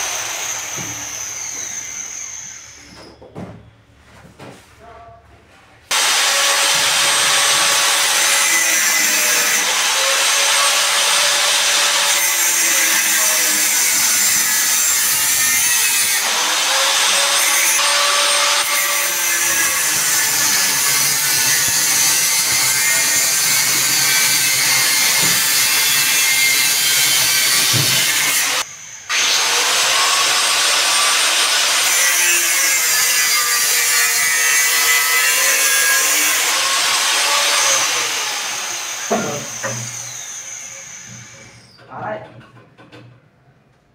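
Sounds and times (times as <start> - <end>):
angle grinder cutting steel: 0.0 - 2.8, 5.9 - 41.6.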